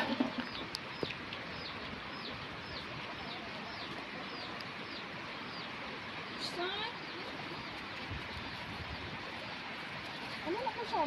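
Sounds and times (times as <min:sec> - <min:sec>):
bird chirping: 0:00.0 - 0:11.0
faint outdoor background noise: 0:00.0 - 0:11.0.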